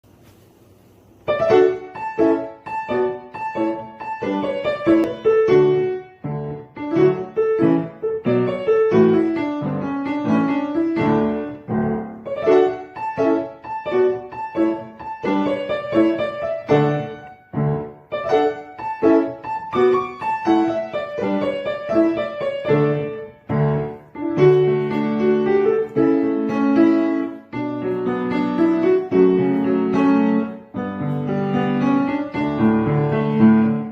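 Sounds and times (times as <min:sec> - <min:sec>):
bouncy piano music: 0:01.2 - 0:33.9.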